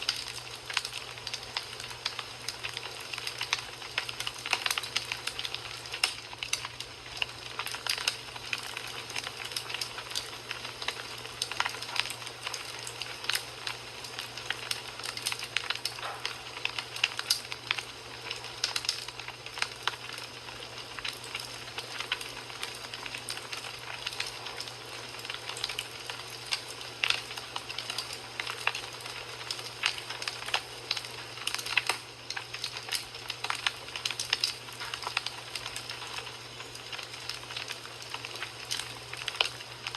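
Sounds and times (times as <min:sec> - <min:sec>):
pops and snaps of fire: 0:00.0 - 0:39.9
wood fire crackling: 0:00.0 - 0:39.9.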